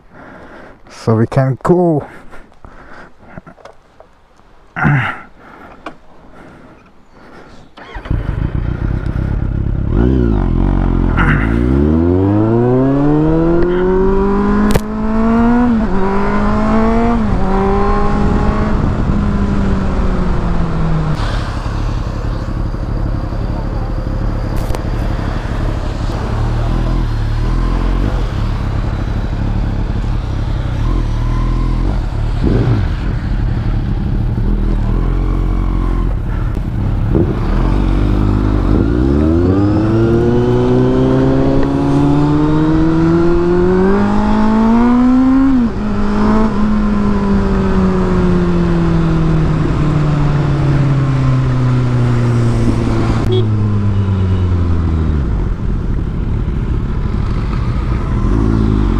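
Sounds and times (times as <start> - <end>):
motorcycle engine rumbling and accelerating: 0.0 - 58.9.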